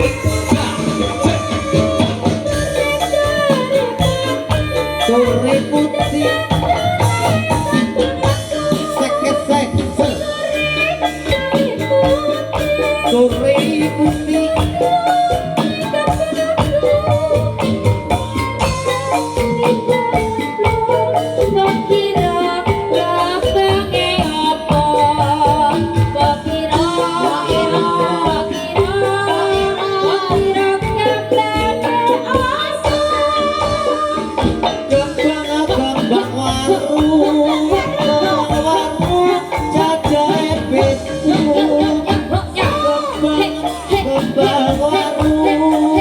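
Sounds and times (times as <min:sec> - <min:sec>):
fast steady drumming: 0:00.0 - 0:46.0
jingling tambourine: 0:00.0 - 0:46.0
melody with bending notes: 0:00.0 - 0:46.0.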